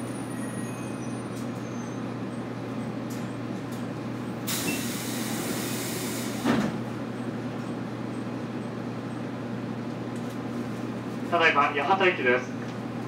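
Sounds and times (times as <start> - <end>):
train equipment low hum: 1.3 - 13.0.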